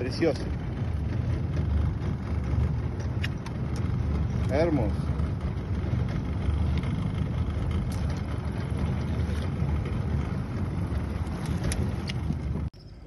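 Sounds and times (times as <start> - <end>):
boat motor idling: 0.0 - 13.0.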